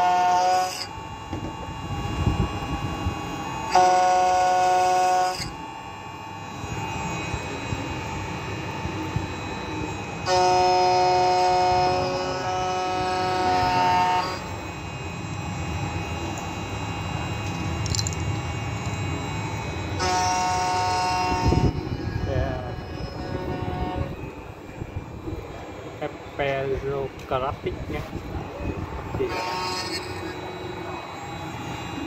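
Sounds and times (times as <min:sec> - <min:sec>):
machine running noise: 0:00.0 - 0:32.0
motors whining: 0:00.0 - 0:32.0.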